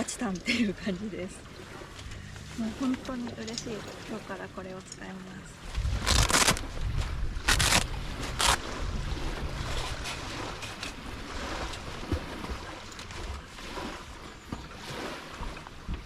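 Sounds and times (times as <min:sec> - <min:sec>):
wind rumbling on microphone: 0:01.6 - 0:16.0.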